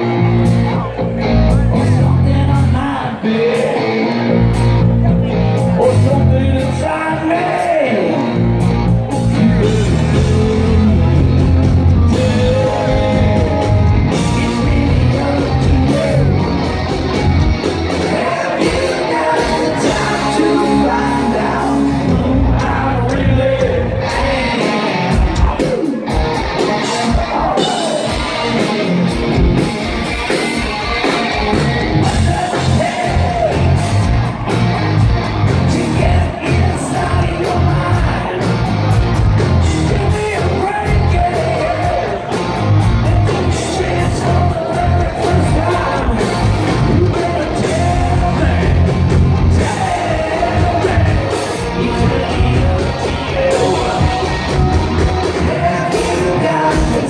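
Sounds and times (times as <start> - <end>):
rock band playing loudly: 0.0 - 57.0
man singing and shouting: 0.7 - 16.8, 17.9 - 29.0, 31.6 - 34.5, 35.4 - 57.0.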